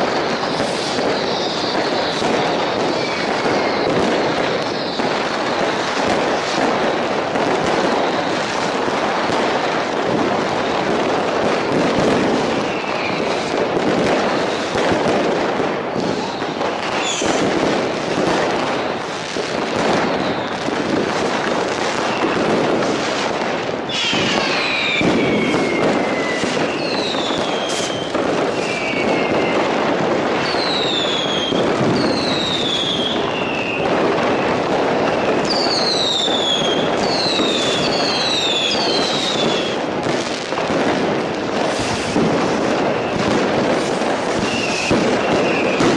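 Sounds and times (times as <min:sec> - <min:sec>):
falling firework whistles: 0:00.0 - 0:45.9
fireworks bangs and crackles: 0:00.0 - 0:45.9.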